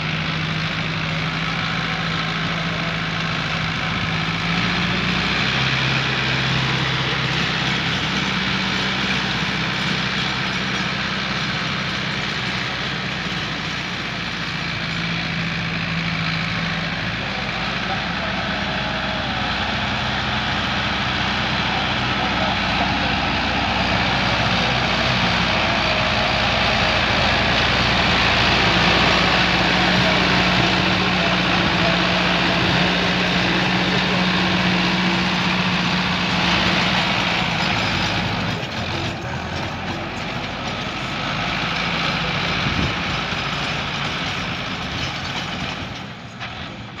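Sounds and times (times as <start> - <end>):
rotavator tilling soil: 0.0 - 47.0
tractor diesel engine running: 0.0 - 47.0.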